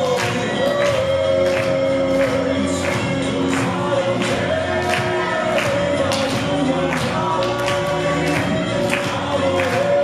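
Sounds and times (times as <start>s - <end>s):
backing track with steady beat: 0.0s - 10.0s.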